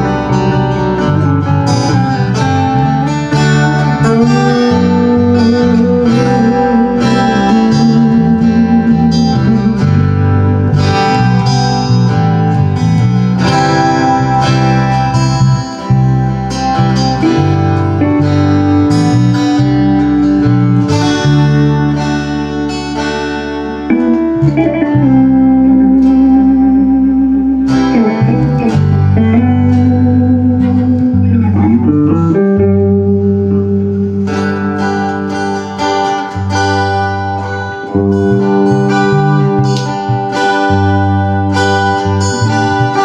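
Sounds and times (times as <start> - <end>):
acoustic guitar playing: 0.0 - 43.0
long held bending notes: 0.0 - 43.0.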